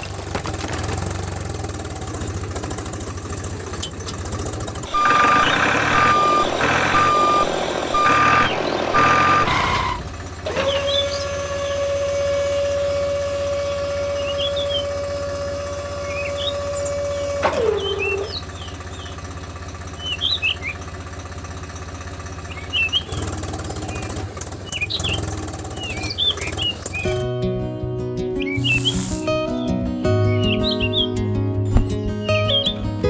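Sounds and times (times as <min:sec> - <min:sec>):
birds chirping: 0:00.0 - 0:27.2, 0:28.4 - 0:33.0
low engine-like hum: 0:00.0 - 0:33.0.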